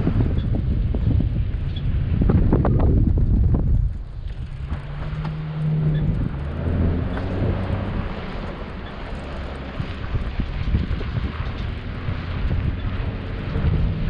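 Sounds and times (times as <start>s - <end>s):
truck engine hum: 0.0s - 14.0s.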